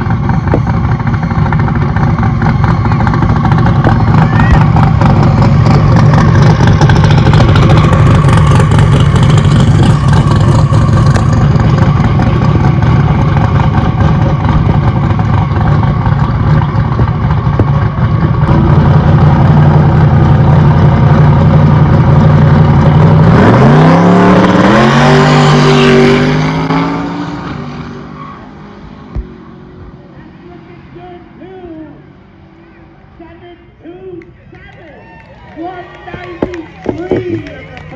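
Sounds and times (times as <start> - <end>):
race car engine accelerating: 0.0 - 32.0.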